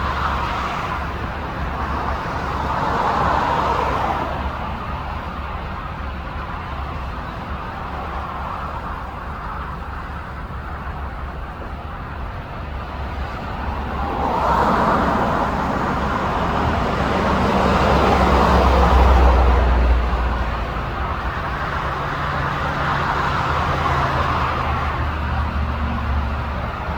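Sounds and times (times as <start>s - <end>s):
road traffic rumble: 0.0s - 26.9s.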